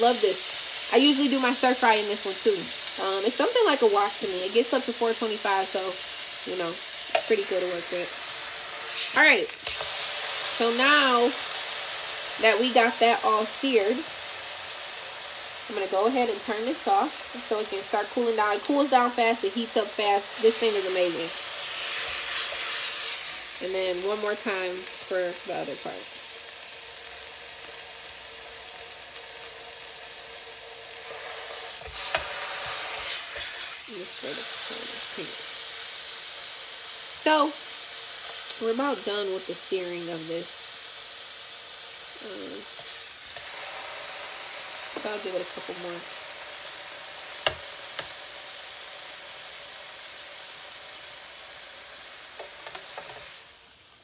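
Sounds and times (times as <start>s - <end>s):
meat sizzling in a skillet: 0.0s - 54.0s.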